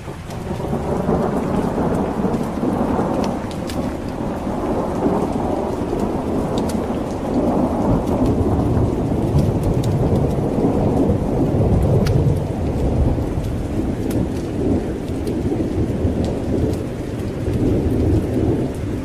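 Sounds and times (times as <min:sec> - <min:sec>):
heavy rain: 0:00.0 - 0:19.0
rolling thunder: 0:00.0 - 0:19.0.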